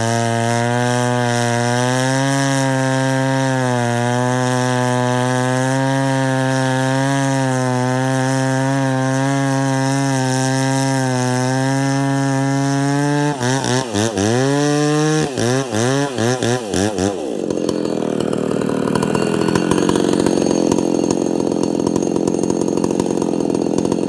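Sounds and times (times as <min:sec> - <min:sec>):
chainsaw revving and idling: 0:00.0 - 0:24.0.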